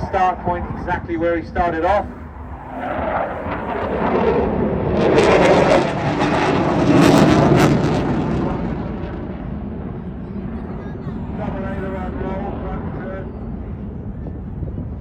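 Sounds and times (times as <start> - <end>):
jet fighter roaring past: 0.0 - 14.2.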